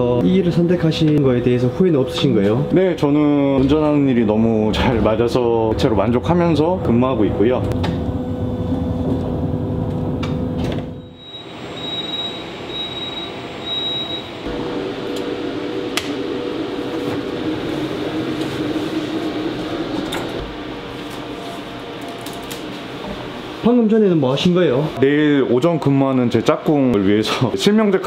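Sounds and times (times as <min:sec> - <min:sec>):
electric bus hum: 0:00.0 - 0:25.0.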